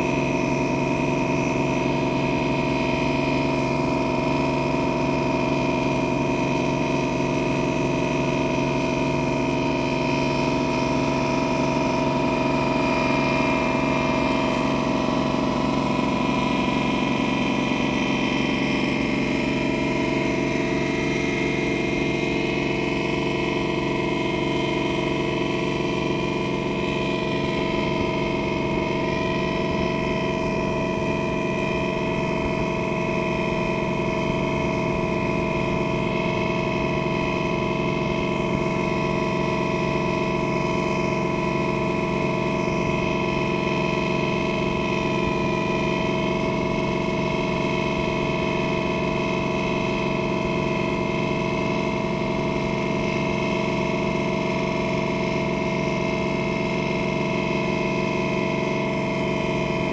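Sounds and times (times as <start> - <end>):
boat engine drone: 0.0 - 59.9
high engine whine: 0.0 - 59.9.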